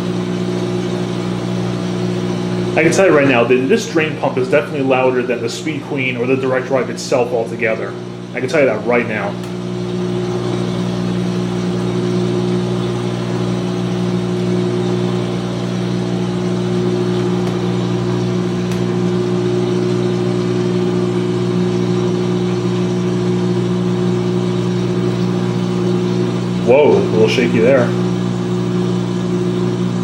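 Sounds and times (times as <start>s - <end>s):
washer drain pump humming: 0.0s - 30.0s.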